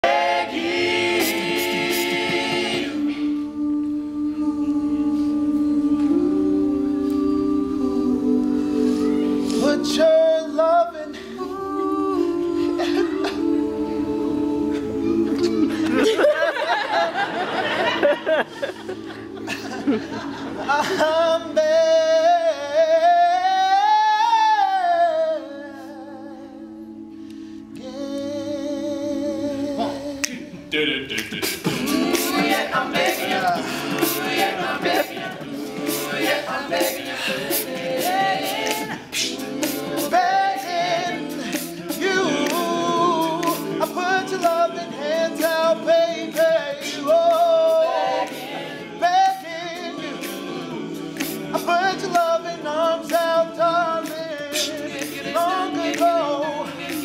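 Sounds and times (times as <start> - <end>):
male a cappella group singing: 0.0 - 57.0.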